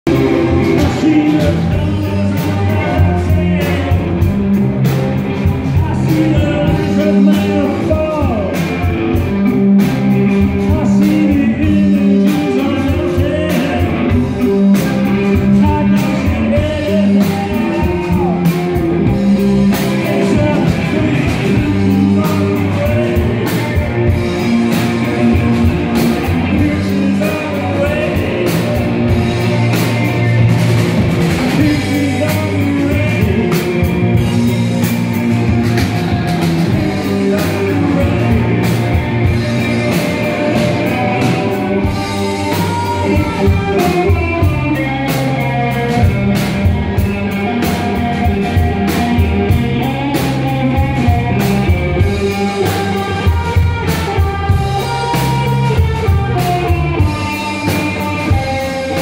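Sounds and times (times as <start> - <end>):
man singing: 0.0 - 30.5, 31.2 - 59.0
bass guitar: 0.0 - 59.0
drum kit beat: 0.0 - 59.0
electric guitar: 0.0 - 59.0.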